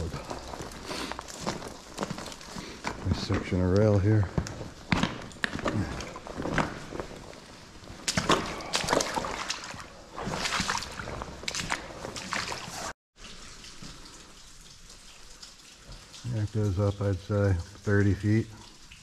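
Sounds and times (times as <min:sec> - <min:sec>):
footsteps sloshing through wet silt: 0:00.0 - 0:19.0
water trickling and dripping: 0:00.0 - 0:19.0.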